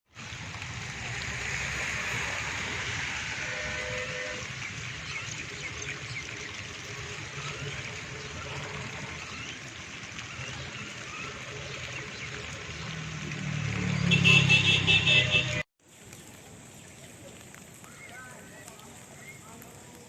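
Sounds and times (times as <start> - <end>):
rainwater rushing and trickling: 0.1 - 20.0.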